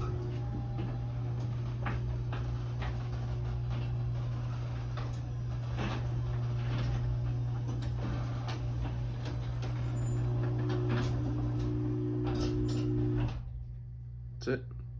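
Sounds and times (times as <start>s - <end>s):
garage door opener motor humming: 0.0s - 14.2s.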